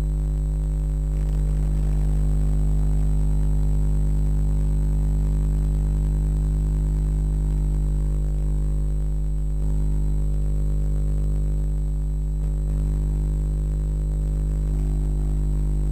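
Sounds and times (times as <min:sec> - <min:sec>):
electrical hum and buzz: 0:00.0 - 0:15.9
faint high whine: 0:00.0 - 0:15.9.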